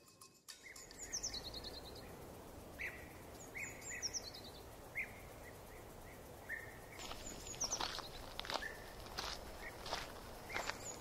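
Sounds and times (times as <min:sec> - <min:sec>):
birds calling: 0:00.5 - 0:11.0.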